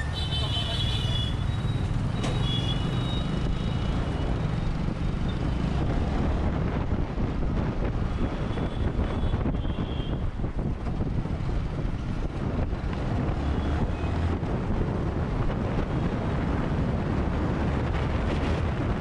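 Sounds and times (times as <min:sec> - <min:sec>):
traffic road noise: 0:00.0 - 0:19.0.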